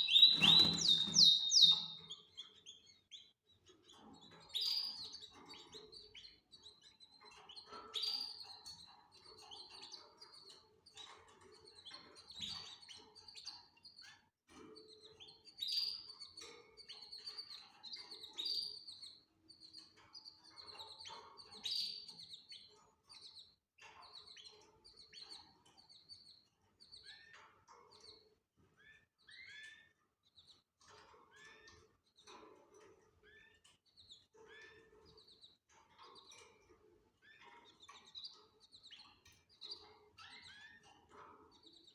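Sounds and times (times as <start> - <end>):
canaries chirping: 0.0 - 41.9.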